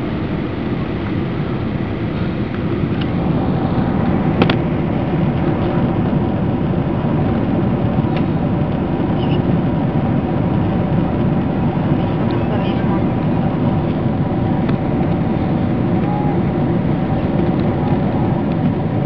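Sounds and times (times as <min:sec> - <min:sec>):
airplane cabin roar: 0:00.0 - 0:19.0
faint hum of steady tones: 0:03.3 - 0:19.0.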